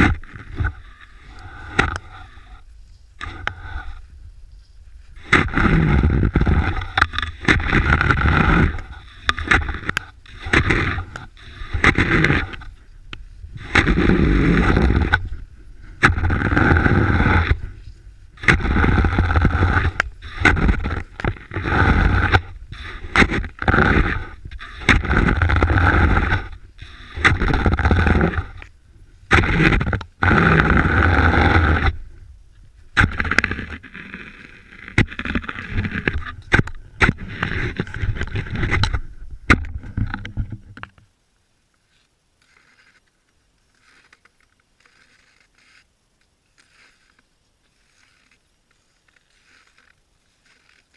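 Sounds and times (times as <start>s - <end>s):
skis scraping through snow: 0.0s - 32.1s, 41.9s - 50.9s.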